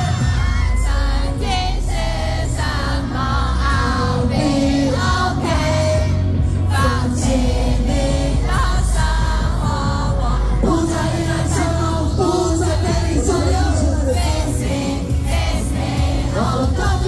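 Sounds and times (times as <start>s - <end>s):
loud pop music with singing: 0.0s - 17.0s.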